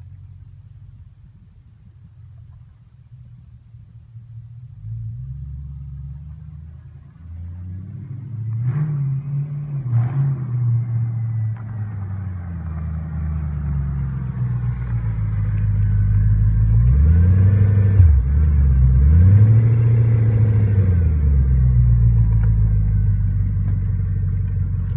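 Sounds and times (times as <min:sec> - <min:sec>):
car engine running without exhaust: 0:00.0 - 0:24.9.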